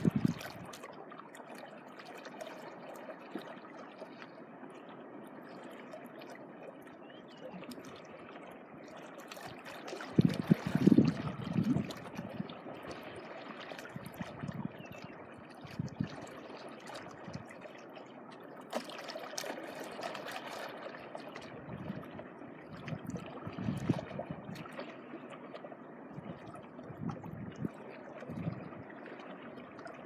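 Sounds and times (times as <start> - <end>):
small waves washing on shore: 0.0 - 30.0.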